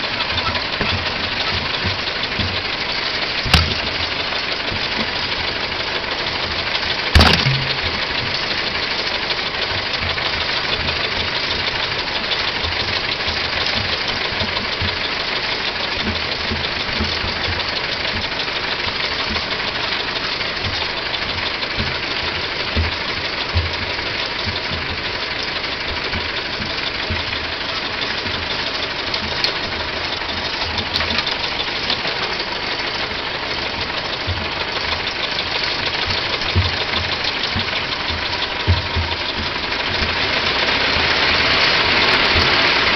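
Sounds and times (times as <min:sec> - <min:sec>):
old car engine running: 0:00.0 - 0:42.9.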